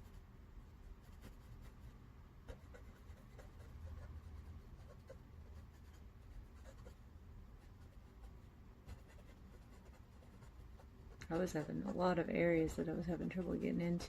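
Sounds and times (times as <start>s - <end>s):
scratching strokes on paper: 0.0s - 7.0s, 7.6s - 14.0s.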